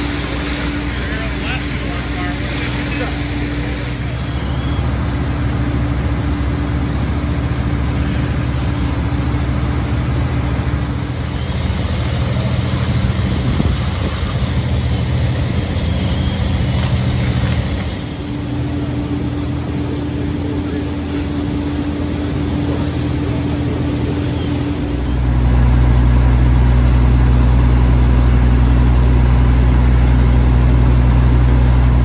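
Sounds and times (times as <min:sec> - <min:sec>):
fire engines pumping hum: 0:00.0 - 0:32.0.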